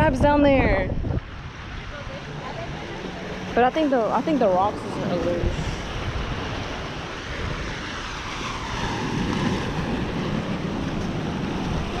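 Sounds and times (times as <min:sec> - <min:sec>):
ocean surf against rocks: 0:00.0 - 0:12.0
wind buffeting microphone: 0:00.0 - 0:12.0.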